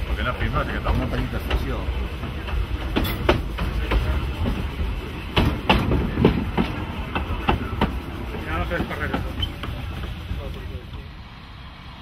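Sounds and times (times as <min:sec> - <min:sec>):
wheels clicking over rail joints: 0:00.0 - 0:11.1
train rumble: 0:00.0 - 0:12.0.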